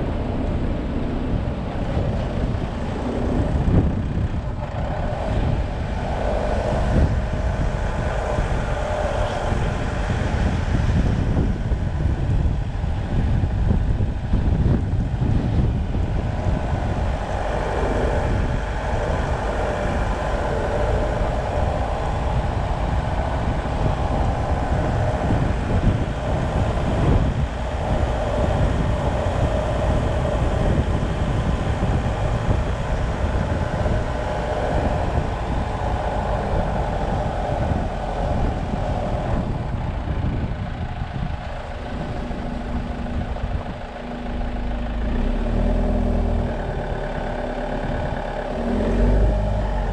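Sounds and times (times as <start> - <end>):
motorcycle engine: 0.0 - 49.9
wind noise: 0.0 - 49.9.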